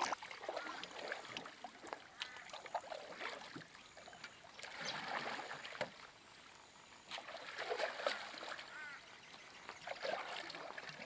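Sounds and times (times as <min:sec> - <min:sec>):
paddle swishing through water: 0:00.0 - 0:11.0.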